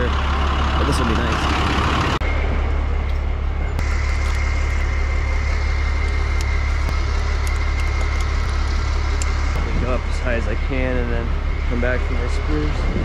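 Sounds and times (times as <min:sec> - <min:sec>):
steady high whine: 0:00.0 - 0:13.0
truck engine idling: 0:00.0 - 0:13.0.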